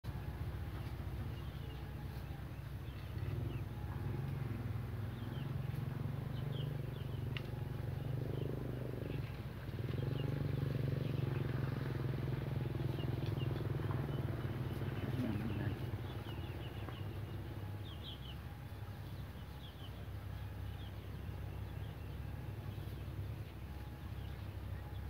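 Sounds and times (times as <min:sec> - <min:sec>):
motor droning: 0:00.1 - 0:25.0
small birds chirping: 0:00.1 - 0:25.0.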